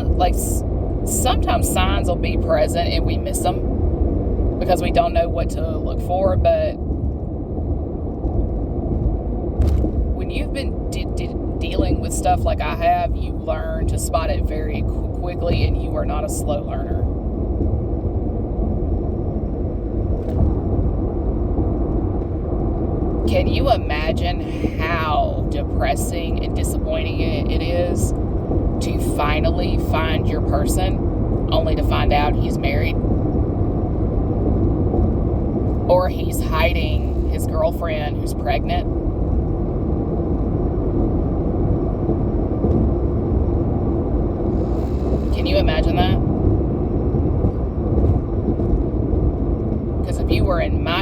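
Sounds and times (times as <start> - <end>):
low rumble: 0.0 - 51.0.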